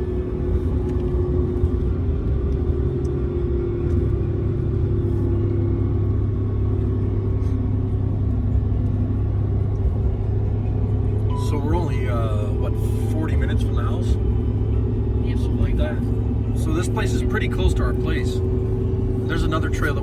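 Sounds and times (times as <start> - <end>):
car interior road rumble: 0.0 - 20.0.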